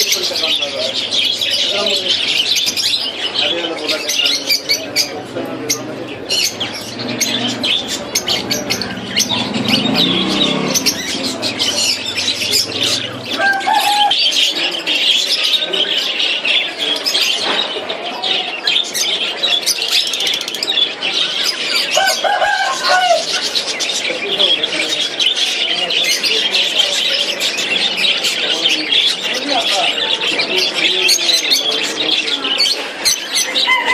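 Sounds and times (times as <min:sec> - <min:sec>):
parrots chirping and squawking: 0:00.0 - 0:33.9.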